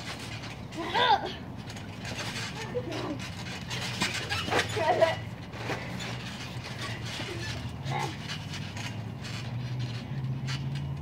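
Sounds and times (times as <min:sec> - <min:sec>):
trampoline thumping and creaking: 0:00.0 - 0:11.0.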